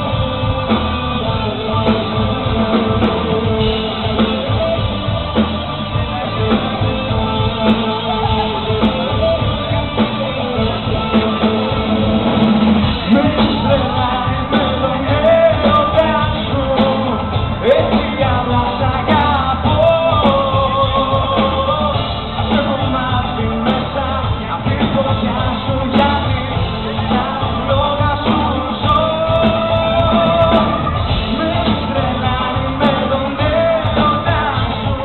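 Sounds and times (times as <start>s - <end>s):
live band playing: 0.0s - 35.0s
person singing: 0.0s - 35.0s.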